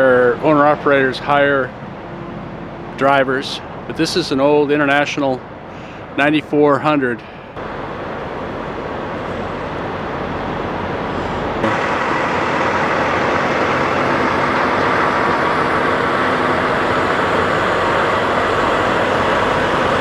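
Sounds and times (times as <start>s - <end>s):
diesel truck engines droning: 0.0s - 20.0s.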